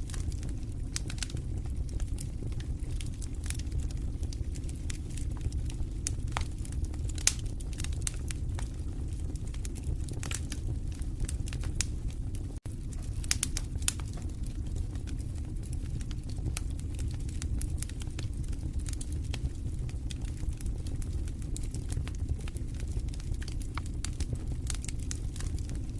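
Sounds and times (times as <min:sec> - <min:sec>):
low rumble of flames: 0:00.0 - 0:25.9
wood fire crackling and popping: 0:00.0 - 0:25.9.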